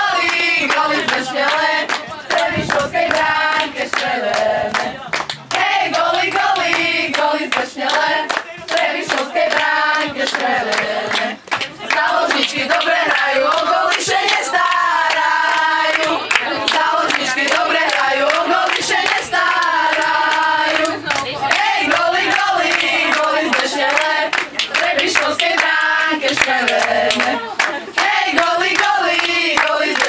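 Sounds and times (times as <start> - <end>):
girls singing a chant: 0.0 - 30.0
hands clapping: 0.2 - 30.0.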